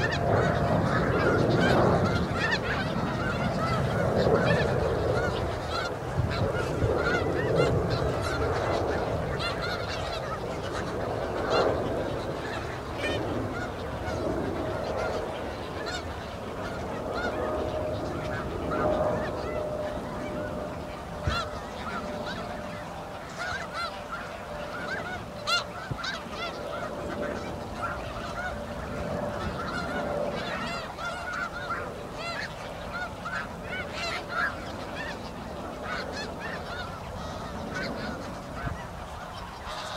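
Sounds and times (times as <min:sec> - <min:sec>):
flock of geese honking: 0:00.0 - 0:39.9.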